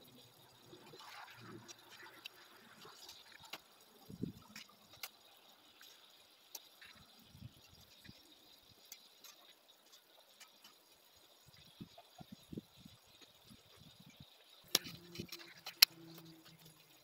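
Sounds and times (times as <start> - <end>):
faint ticks: 0.0 - 17.0.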